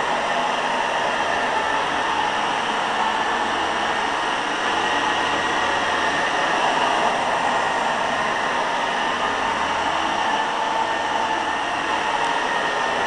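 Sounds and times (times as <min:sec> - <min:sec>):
carpet cleaner droning: 0:00.0 - 0:13.0.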